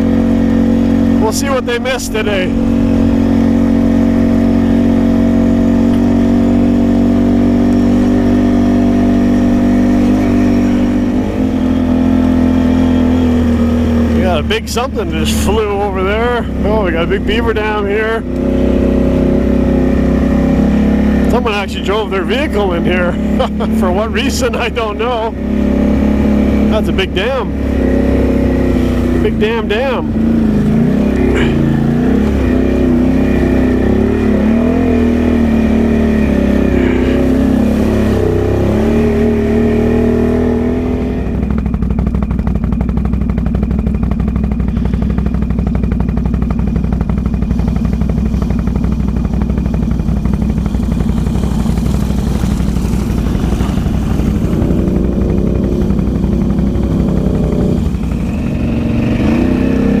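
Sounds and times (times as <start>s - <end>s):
atv engine running: 0.0s - 60.0s.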